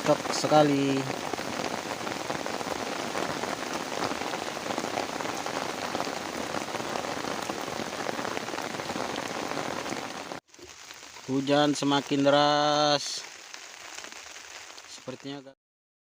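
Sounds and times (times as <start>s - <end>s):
heavy rain: 0.0s - 15.5s.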